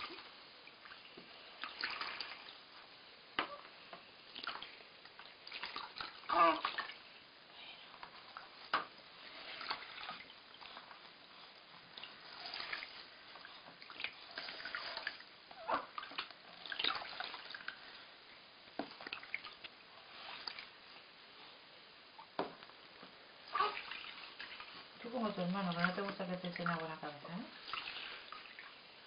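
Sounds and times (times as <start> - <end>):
water splashing in a tub: 0.0 - 7.4, 8.2 - 20.9, 23.4 - 29.0.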